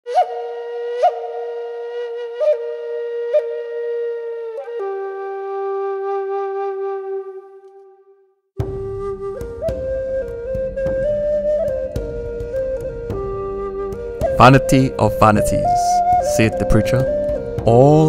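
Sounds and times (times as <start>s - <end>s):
flute-like solo melody: 0.0s - 18.0s
music bed: 0.1s - 18.0s.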